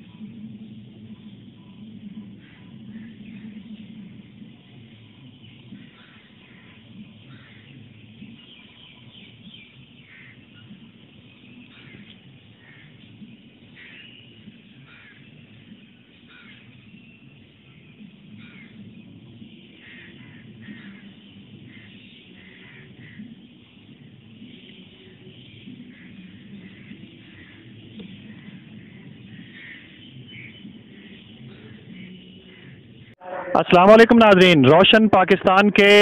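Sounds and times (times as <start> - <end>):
small birds chirping: 0.0 - 33.2.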